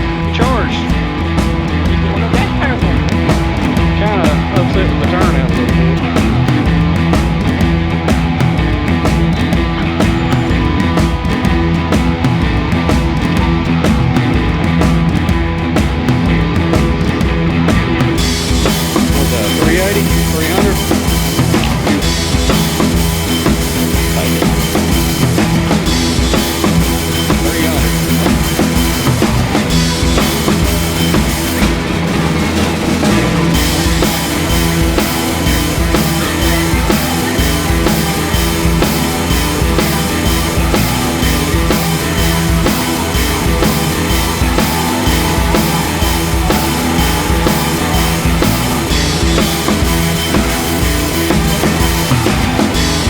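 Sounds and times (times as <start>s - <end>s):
drum-kit beat: 0.0s - 53.0s
rock music: 0.0s - 53.0s.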